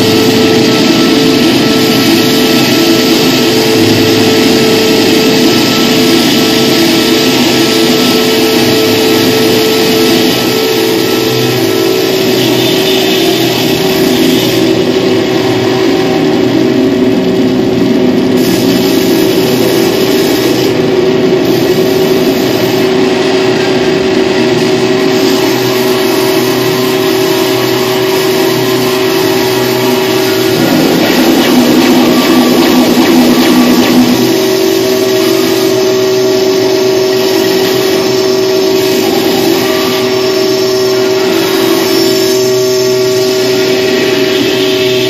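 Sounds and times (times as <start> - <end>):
dense wash of noise: 0.0 - 45.0
steady droning tone: 0.0 - 45.0.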